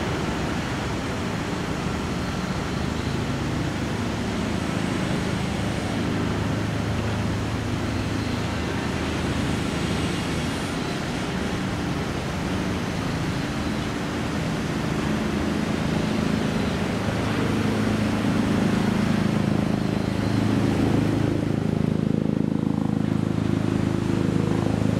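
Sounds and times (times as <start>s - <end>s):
constant rushing noise: 0.0s - 24.9s
ship engine humming: 0.0s - 24.9s.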